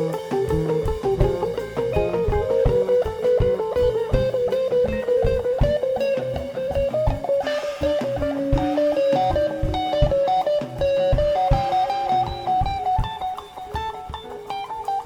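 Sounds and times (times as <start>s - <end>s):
bass guitar: 0.0s - 15.0s
electric guitar lead long notes: 0.0s - 15.0s
steady drums: 0.0s - 15.0s.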